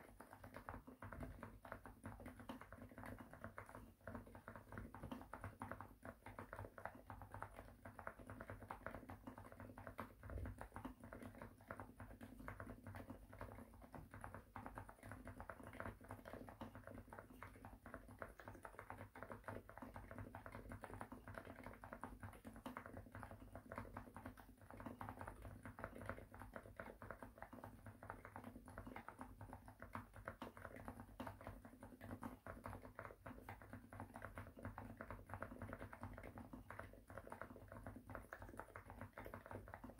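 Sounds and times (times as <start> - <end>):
soft muted keyboard typing: 0.0 - 39.9.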